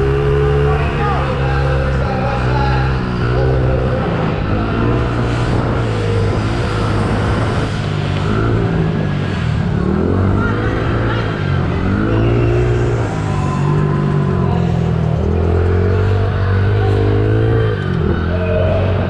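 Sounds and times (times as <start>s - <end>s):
minibike engine revving: 0.0s - 19.0s.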